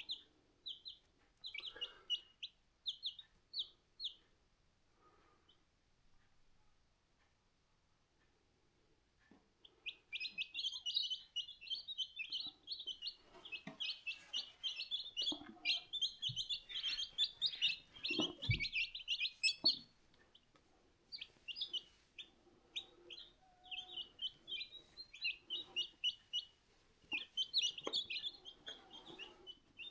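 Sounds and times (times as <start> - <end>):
chicks peeping: 0.0 - 4.4, 9.2 - 29.9.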